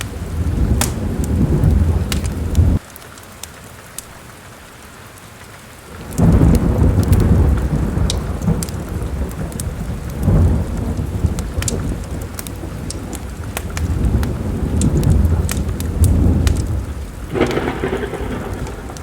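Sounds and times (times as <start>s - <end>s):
thunder rumbling: 0.0s - 2.8s, 5.9s - 19.0s
steady rain: 0.0s - 19.0s
wood fire crackling: 0.0s - 19.0s.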